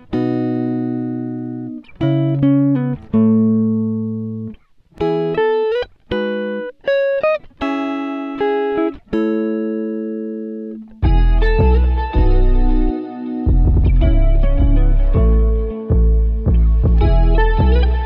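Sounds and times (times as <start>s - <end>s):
plucked guitar music: 0.0s - 18.0s.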